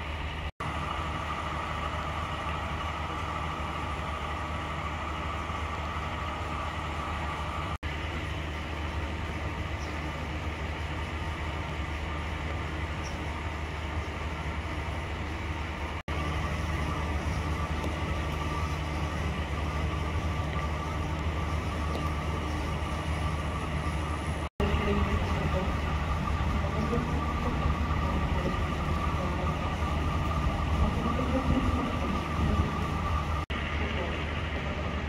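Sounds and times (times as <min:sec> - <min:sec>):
diesel train engine running: 0:00.0 - 0:35.0.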